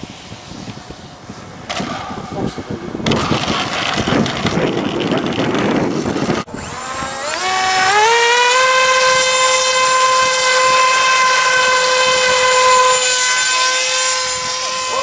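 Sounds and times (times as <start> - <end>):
model airplane propeller whine: 0.0 - 15.0.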